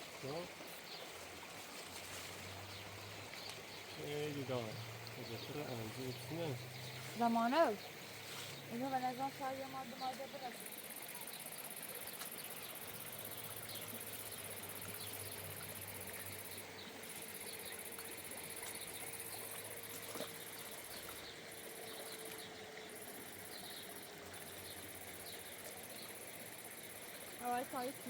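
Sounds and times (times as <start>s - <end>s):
insects chirring: 2.0s - 28.0s.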